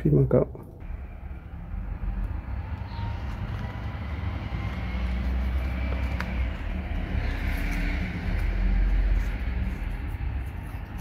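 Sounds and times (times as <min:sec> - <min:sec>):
engine rumble: 0:00.0 - 0:11.0.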